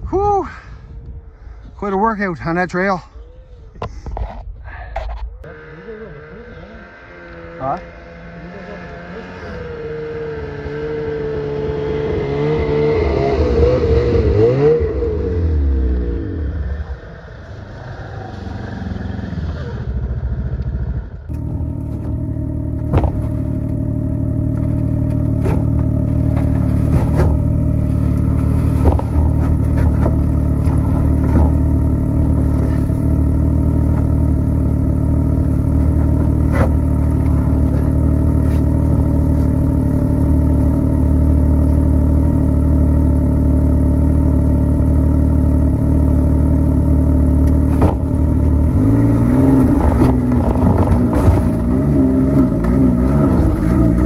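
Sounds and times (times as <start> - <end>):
snowmobile engine running: 5.4 - 17.6, 19.5 - 54.0.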